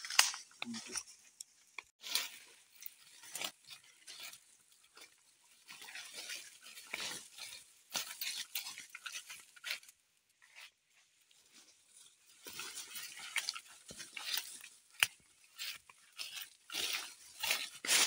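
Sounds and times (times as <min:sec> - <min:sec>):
footsteps crunching dry leaves: 0:01.9 - 0:18.0.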